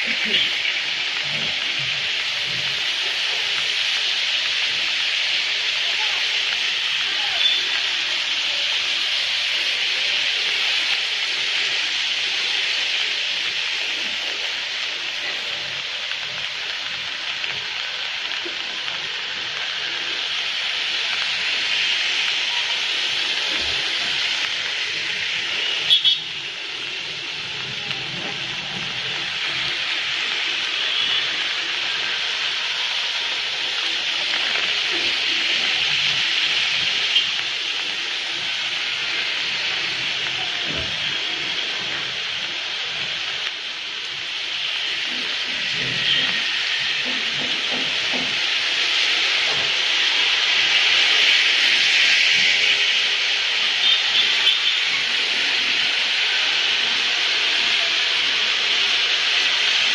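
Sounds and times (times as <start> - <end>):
rain on wet street: 0.0 - 59.9.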